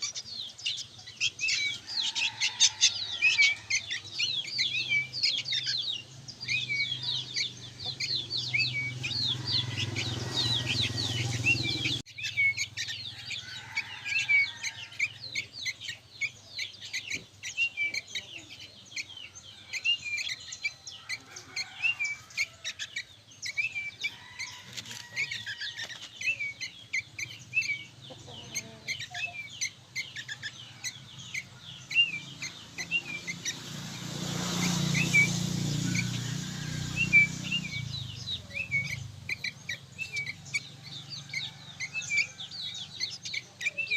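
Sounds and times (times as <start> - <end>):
young birds chirping: 0.0 - 43.9.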